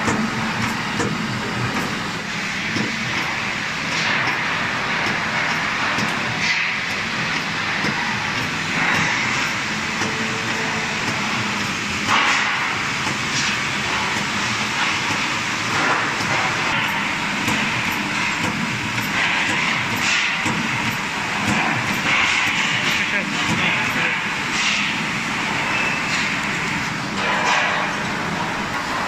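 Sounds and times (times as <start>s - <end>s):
riveting machine running: 0.0s - 29.0s.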